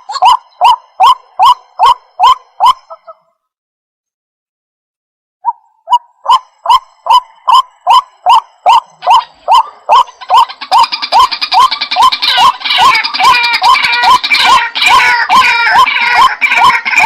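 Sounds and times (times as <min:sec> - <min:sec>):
higher bird chatter: 0:00.0 - 0:03.2, 0:05.9 - 0:17.0.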